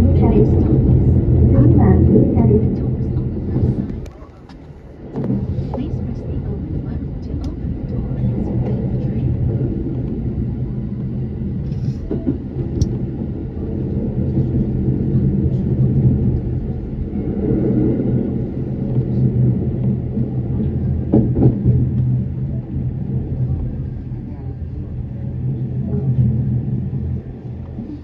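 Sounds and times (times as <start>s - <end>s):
train rumbling inside carriage: 0.0s - 28.0s.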